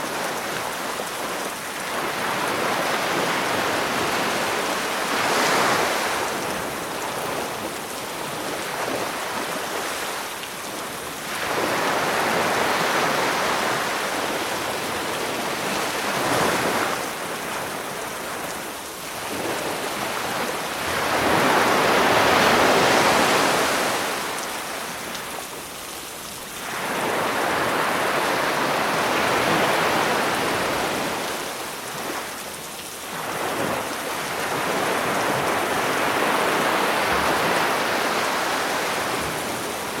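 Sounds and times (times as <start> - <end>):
sea waves breaking on shore: 0.0 - 40.0.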